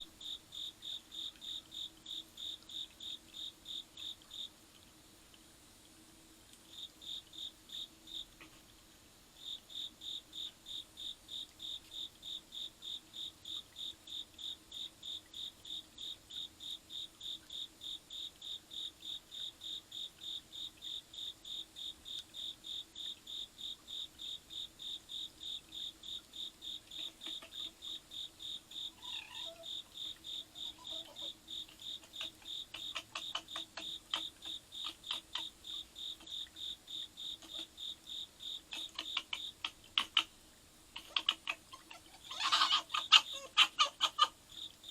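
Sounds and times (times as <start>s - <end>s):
cricket chirping: 0.0s - 4.9s, 6.6s - 8.6s, 9.4s - 44.9s.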